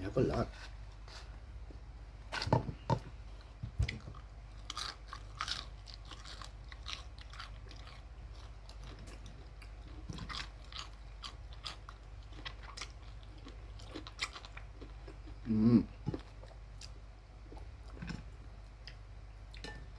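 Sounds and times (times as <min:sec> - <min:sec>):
crunching and chewing: 0:03.4 - 0:19.8.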